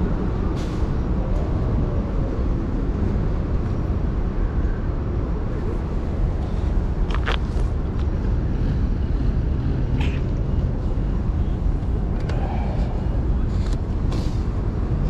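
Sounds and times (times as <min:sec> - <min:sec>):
faint street sounds: 0:00.0 - 0:15.0
wind buffeting microphone: 0:00.0 - 0:15.0.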